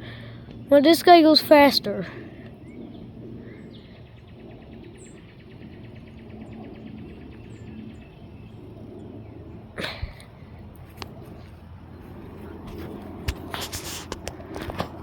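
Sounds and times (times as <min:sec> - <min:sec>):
steady low rumble: 0:01.9 - 0:14.5.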